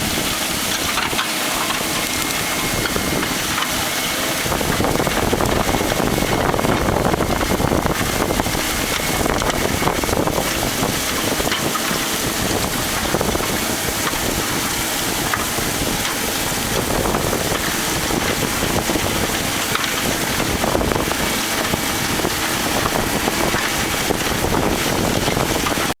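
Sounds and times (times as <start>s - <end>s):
tractor diesel engine running: 0.0s - 26.0s
wind buffeting microphone: 0.0s - 26.0s.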